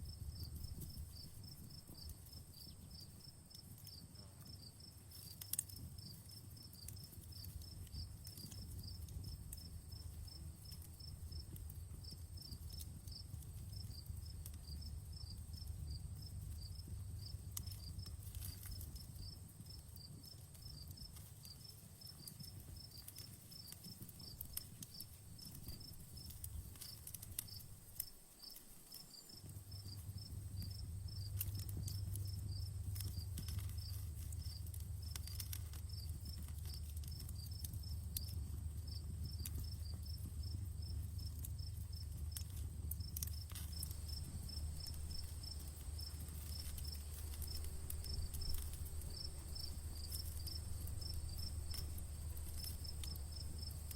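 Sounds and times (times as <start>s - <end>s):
campfire crackling and popping: 0.0s - 53.9s
cricket chirping: 0.0s - 53.9s.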